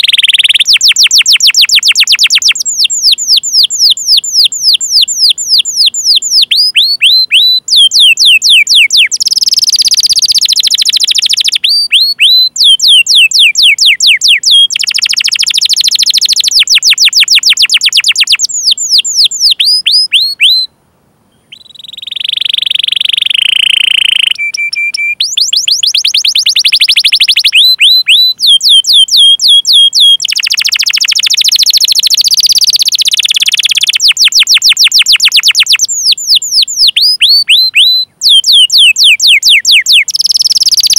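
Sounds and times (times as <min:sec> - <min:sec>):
canary singing chirps and trills: 0:00.0 - 0:20.7, 0:21.3 - 0:40.9.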